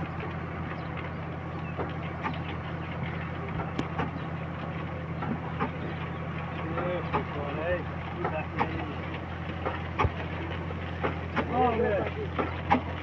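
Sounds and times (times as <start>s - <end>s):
diesel engine humming: 0.0s - 13.0s
sharp engine knocks: 0.0s - 13.0s.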